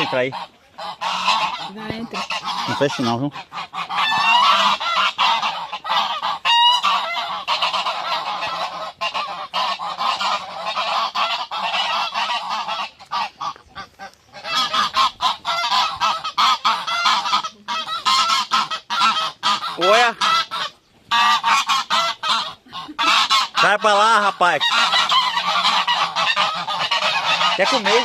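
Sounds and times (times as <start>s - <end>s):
poultry flock calling: 0.0s - 28.0s.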